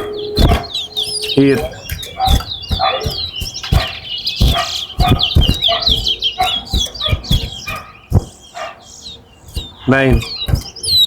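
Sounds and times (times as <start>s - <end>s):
low thumps: 0.0s - 8.5s, 9.4s - 11.0s
finch whistling song: 0.0s - 11.0s.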